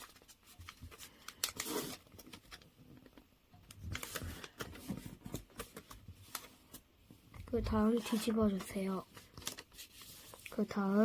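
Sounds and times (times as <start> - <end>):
paper folding and crinkling: 0.0 - 6.9, 7.5 - 11.0.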